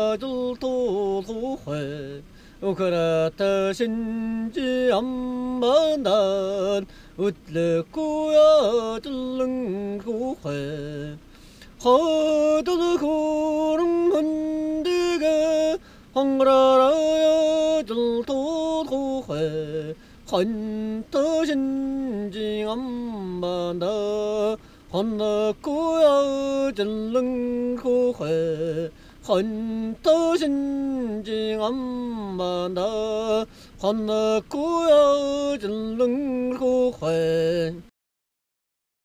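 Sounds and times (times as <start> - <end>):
person singing unaccompanied: 0.0 - 37.9.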